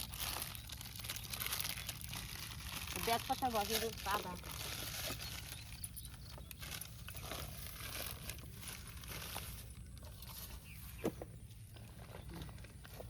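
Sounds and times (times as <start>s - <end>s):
bag crinkling and rustling: 0.0s - 11.0s.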